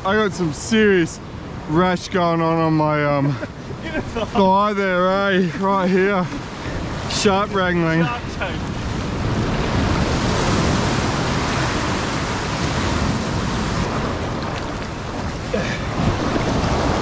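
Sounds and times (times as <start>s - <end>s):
surf washing over sand: 0.0s - 17.0s.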